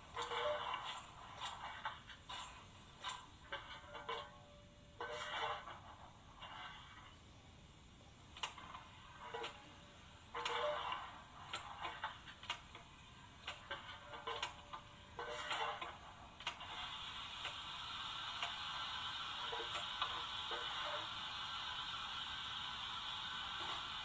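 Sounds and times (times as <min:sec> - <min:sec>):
steady steam hiss: 0:00.0 - 0:24.0
steam exhaust beats through small speaker: 0:00.0 - 0:24.0.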